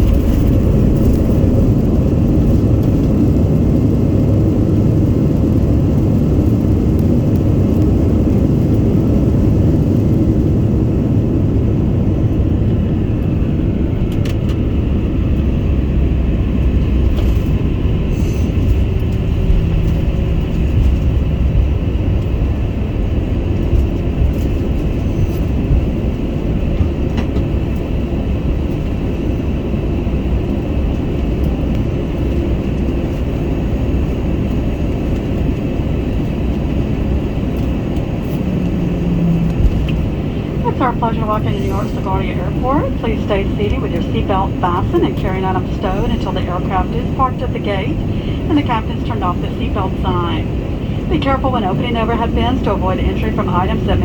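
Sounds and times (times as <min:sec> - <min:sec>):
airliner rumble in cabin: 0:00.0 - 0:54.0.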